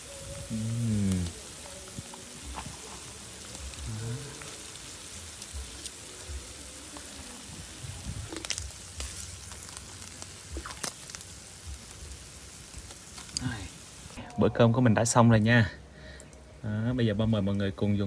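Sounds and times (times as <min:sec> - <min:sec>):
oil sizzling in a wok: 0:00.0 - 0:15.3.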